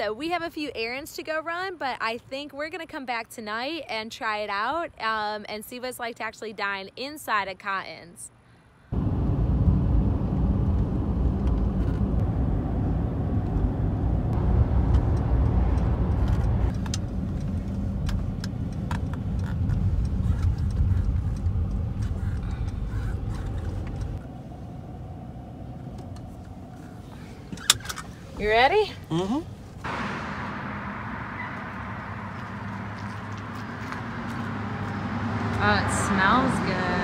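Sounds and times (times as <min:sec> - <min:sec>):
road and engine rumble: 0:00.0 - 0:37.0.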